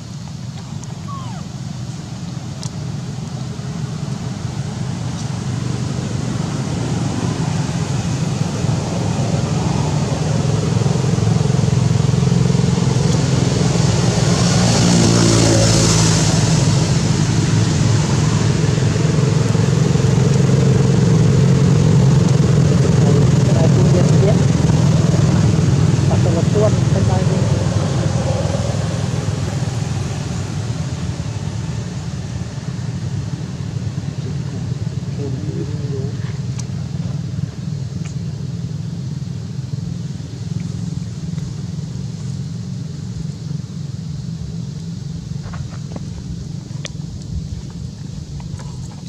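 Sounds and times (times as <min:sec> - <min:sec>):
vehicle engine hum: 0:00.0 - 0:49.0.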